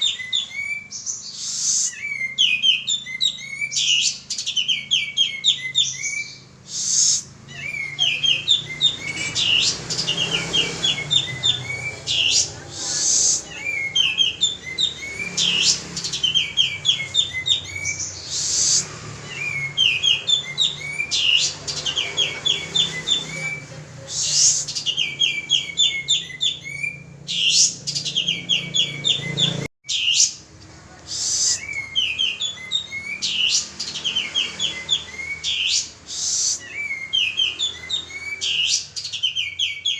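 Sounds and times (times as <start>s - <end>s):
bird singing: 0.0s - 30.5s, 31.1s - 39.9s.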